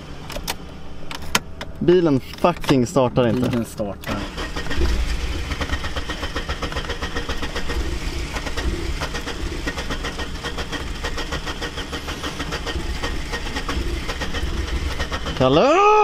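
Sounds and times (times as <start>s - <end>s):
starter motor cranking engine: 2.6s - 16.0s.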